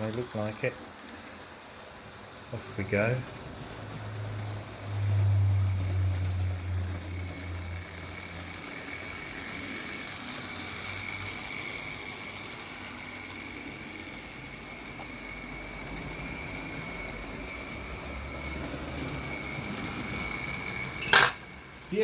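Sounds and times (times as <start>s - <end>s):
model train motor whining: 0.0s - 22.0s.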